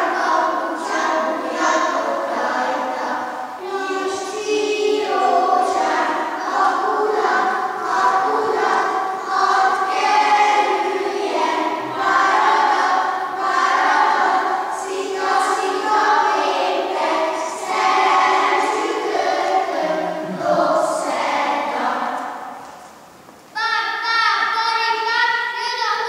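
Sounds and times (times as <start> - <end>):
young children singing: 0.0 - 26.0.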